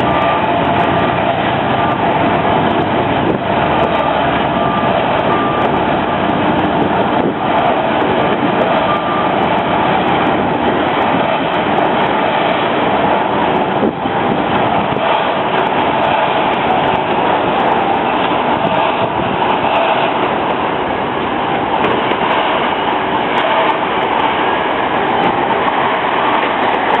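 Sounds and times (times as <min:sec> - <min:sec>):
moving train rumble: 0:00.0 - 0:27.0.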